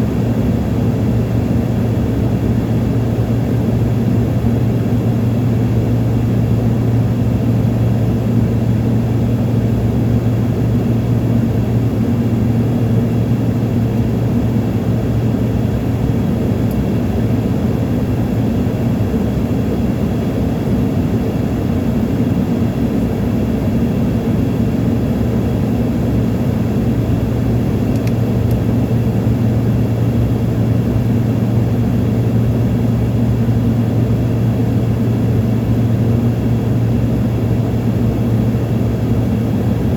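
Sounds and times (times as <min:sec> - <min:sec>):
airplane engines droning: 0:00.0 - 0:39.9.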